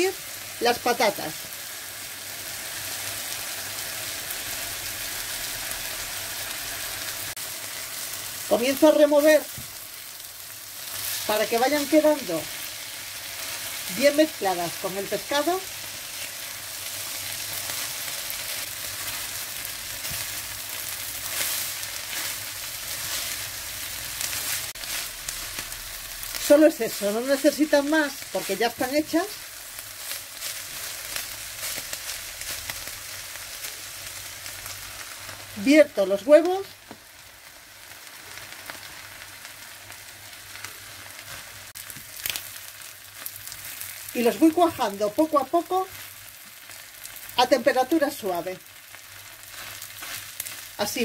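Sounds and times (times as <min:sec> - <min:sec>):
food sizzling in frying pan: 0:00.0 - 0:51.0.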